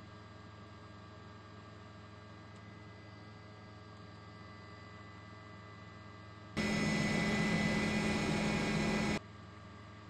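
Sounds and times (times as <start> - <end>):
faint hum with tones: 0.0 - 10.0.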